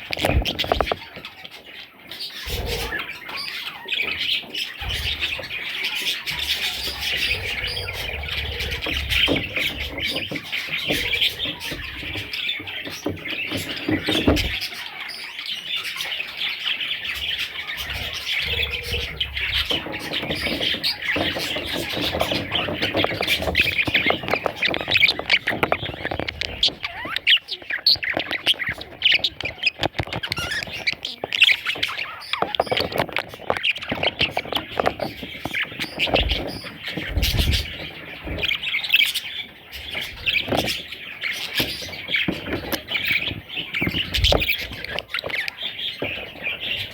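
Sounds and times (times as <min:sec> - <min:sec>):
budgerigars calling: 0:00.0 - 0:46.9.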